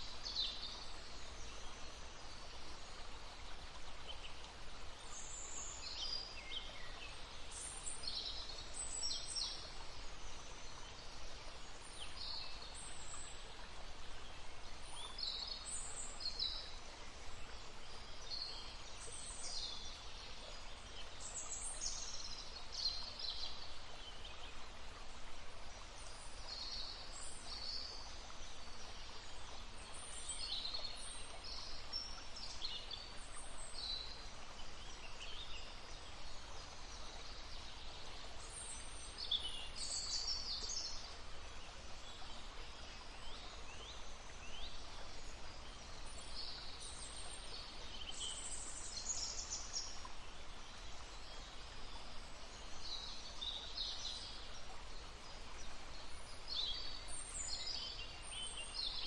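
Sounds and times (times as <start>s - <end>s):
babbling brook: 0.0s - 59.0s
songbirds chirping: 0.0s - 59.0s.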